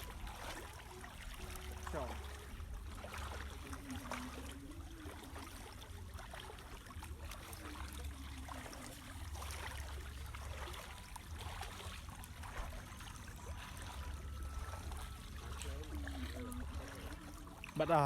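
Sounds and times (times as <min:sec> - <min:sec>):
floodwater splashing and trickling: 0:00.0 - 0:18.0.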